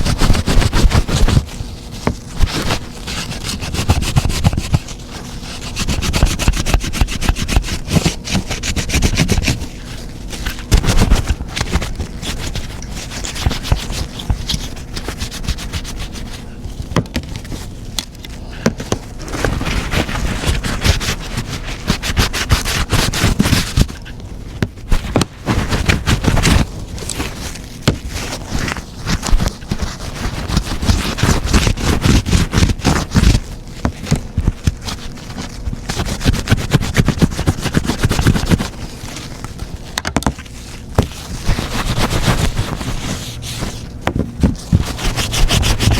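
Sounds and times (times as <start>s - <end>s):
scrubbing and scraping: 0.0s - 45.9s.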